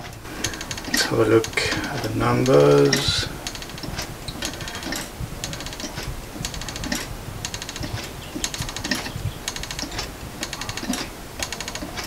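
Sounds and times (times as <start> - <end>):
pendulum clock ticking: 0.0 - 12.0
rapid rattle of clicks: 0.0 - 12.0.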